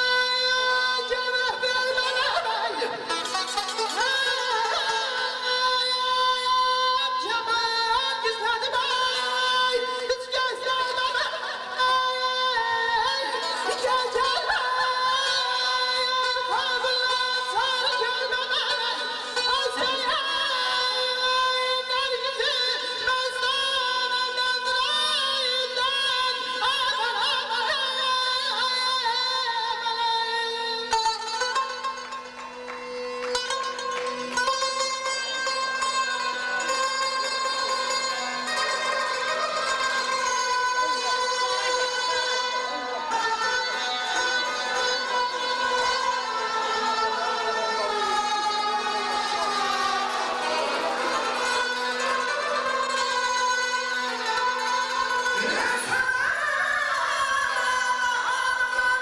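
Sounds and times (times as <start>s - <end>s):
man singing through loudspeakers: 0.0s - 31.4s, 38.1s - 59.0s
string accompaniment: 0.0s - 59.0s.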